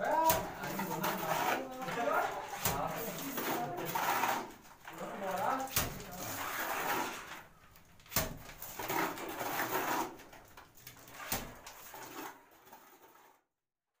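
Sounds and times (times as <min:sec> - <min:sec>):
mortar slapping onto wall: 0:00.0 - 0:13.3
mortar scraping and spattering: 0:00.0 - 0:13.4.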